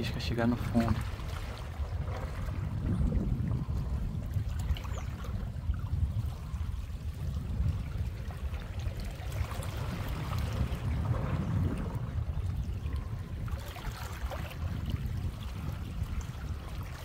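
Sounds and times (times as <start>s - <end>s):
waves lapping against rocks: 0.0s - 17.0s
wind buffeting microphone: 0.0s - 17.0s.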